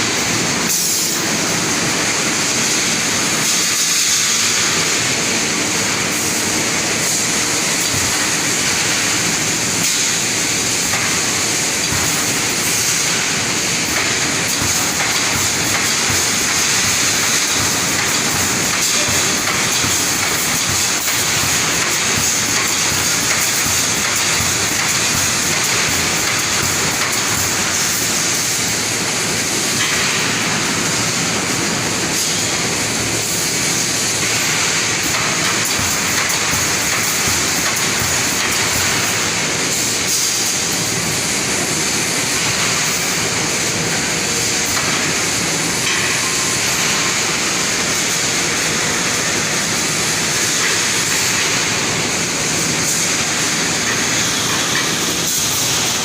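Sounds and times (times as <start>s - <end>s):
welding machine running: 0.0s - 56.0s.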